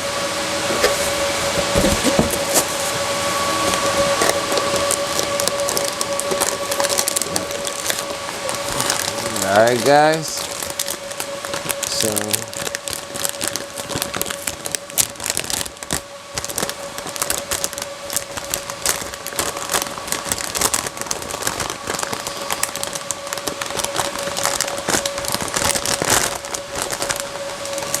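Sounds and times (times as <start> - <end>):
packaging crinkling and rustling: 0.6 - 28.0.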